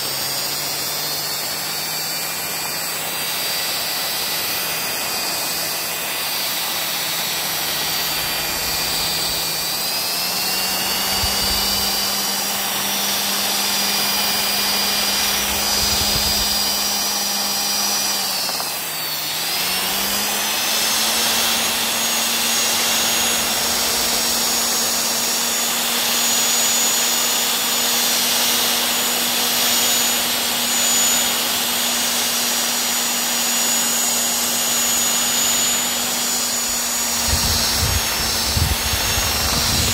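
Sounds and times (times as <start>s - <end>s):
electric hand mixer running: 0.0s - 39.9s.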